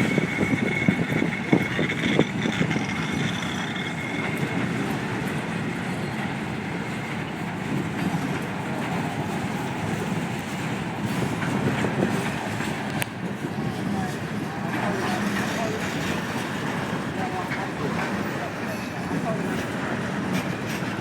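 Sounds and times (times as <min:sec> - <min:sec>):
steel wheels on rails: 0:00.0 - 0:21.0.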